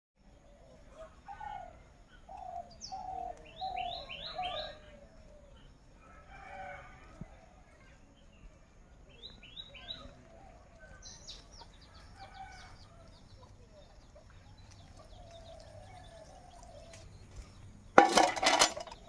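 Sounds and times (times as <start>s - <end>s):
low bird calls: 0.2s - 19.0s.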